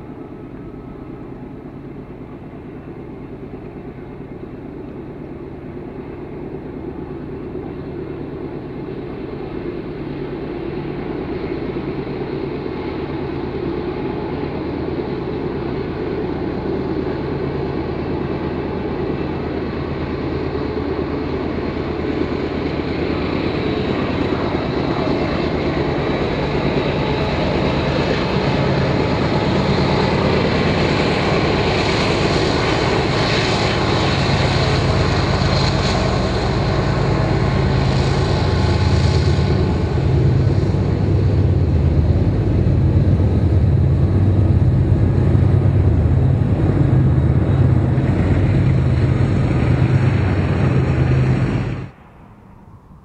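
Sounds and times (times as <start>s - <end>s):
diesel locomotive engines droning: 0.0s - 53.0s
train rolling on rails: 0.0s - 53.0s.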